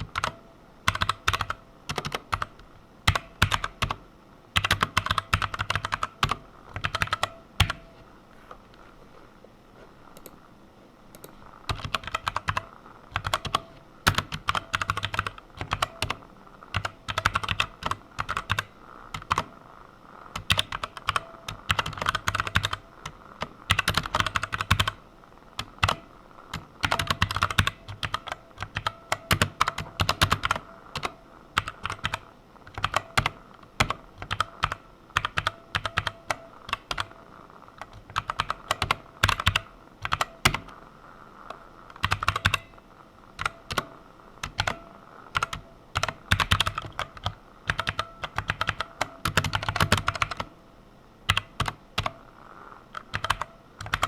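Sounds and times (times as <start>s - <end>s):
typing on computer keyboard: 0.0s - 4.0s, 4.6s - 7.9s, 11.1s - 19.5s, 20.3s - 25.0s, 25.6s - 37.2s, 37.8s - 40.7s, 41.9s - 42.7s, 43.4s - 50.5s, 51.3s - 52.2s, 52.9s - 54.0s.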